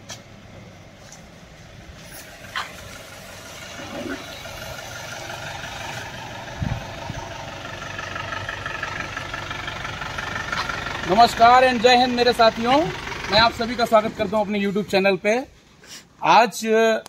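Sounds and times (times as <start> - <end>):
bus engine running: 0.0 - 15.9.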